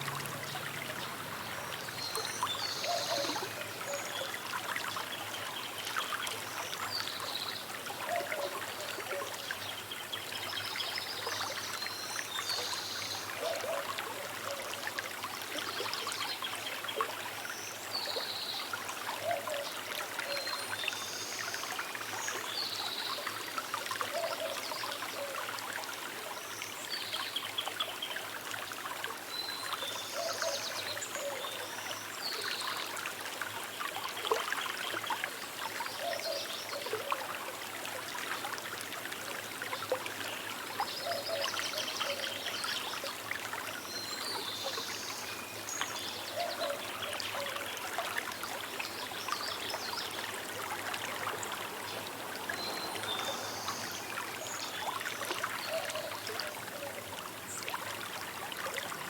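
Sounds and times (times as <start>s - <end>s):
small river babbling: 0.0s - 59.0s.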